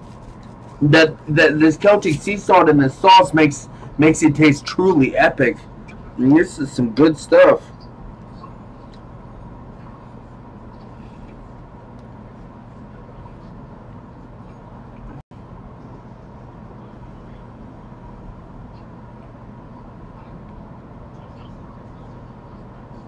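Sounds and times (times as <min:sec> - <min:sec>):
room noise hum and hiss: 0:00.0 - 0:23.0.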